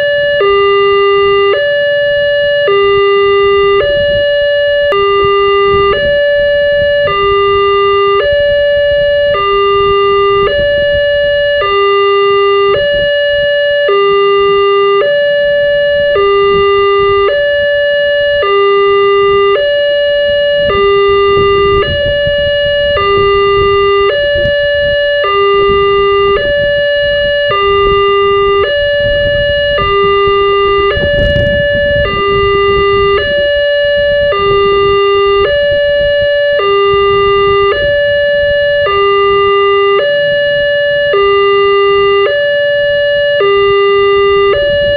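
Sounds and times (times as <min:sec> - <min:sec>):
two-tone level crossing alarm: 0:00.0 - 0:44.9.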